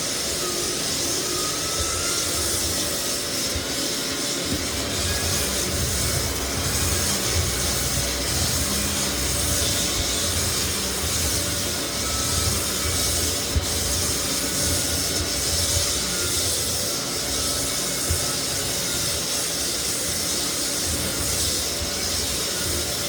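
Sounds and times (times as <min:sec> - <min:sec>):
floor sander grinding: 0:00.0 - 0:23.0.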